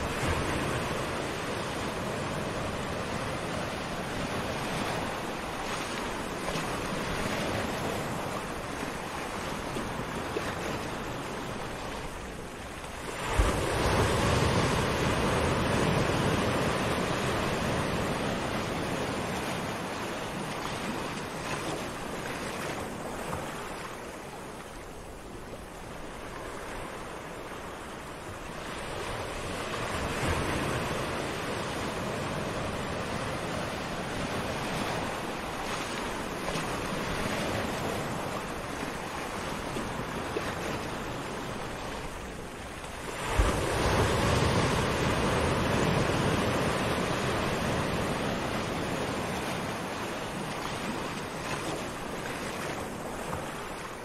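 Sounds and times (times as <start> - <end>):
small waves on sandy beach: 0.0 - 54.0.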